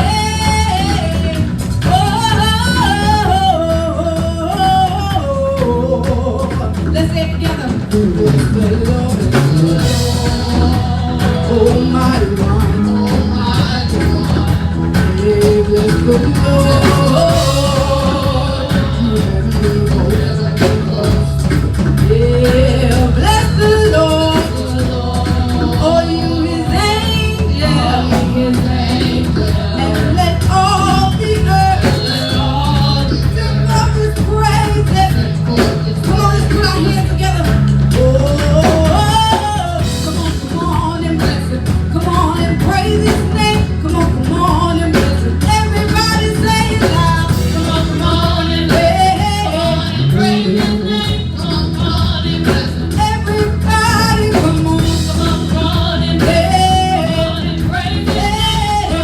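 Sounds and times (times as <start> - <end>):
band with bass and drums: 0.0 - 59.0
people singing: 0.0 - 59.0.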